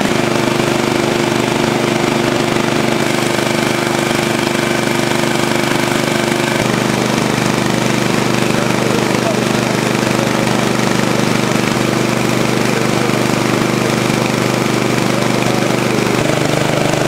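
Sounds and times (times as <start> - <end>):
engine idling: 0.0 - 17.0
water pouring over a weir: 0.0 - 17.0.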